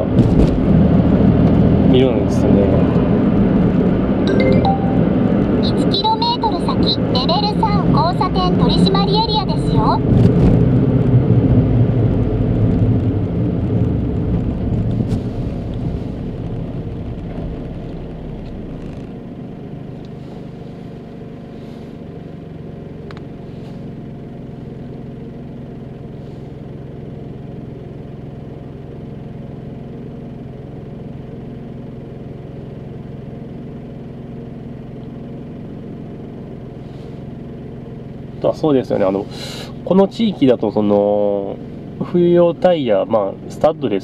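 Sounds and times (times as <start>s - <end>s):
road noise: 0.0s - 28.5s, 36.0s - 44.0s
car engine idling: 5.1s - 10.1s, 10.8s - 44.0s.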